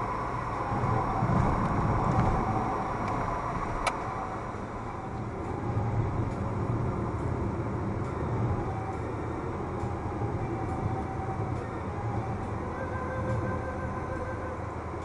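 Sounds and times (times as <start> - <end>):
engine and tyre drone: 0.0 - 15.0
faint steady whine: 0.0 - 15.0.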